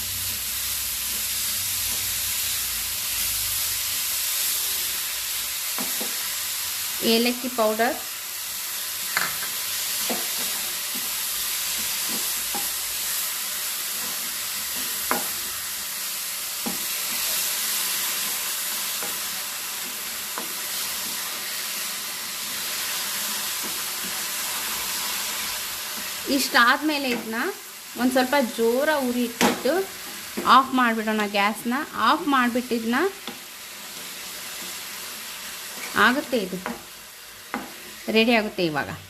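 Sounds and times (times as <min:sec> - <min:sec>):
carrot sizzling in a pan: 0:00.0 - 0:39.0.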